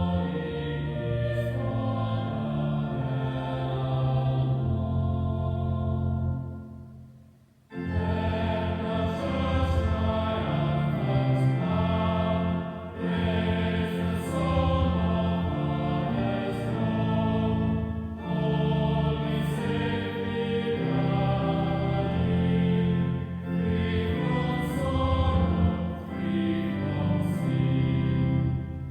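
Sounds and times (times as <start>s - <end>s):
choir singing held chords: 0.0s - 28.9s.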